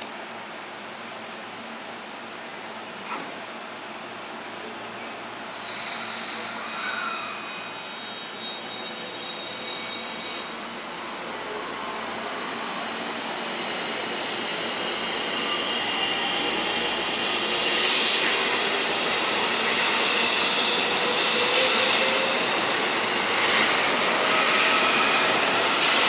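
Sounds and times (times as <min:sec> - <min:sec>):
electric train approaching: 0:00.2 - 0:26.0.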